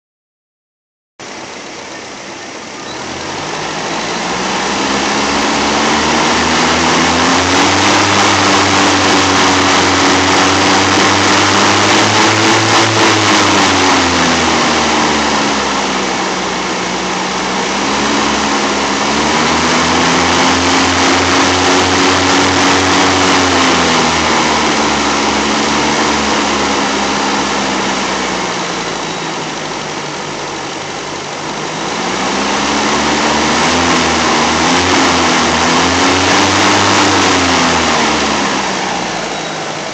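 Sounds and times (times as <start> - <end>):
carburettor engine revving slowly: 1.2 - 39.9.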